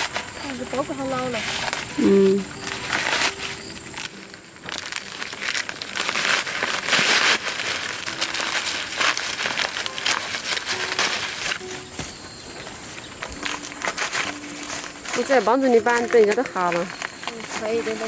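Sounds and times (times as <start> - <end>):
dry corn leaves rustling: 0.0 - 18.0.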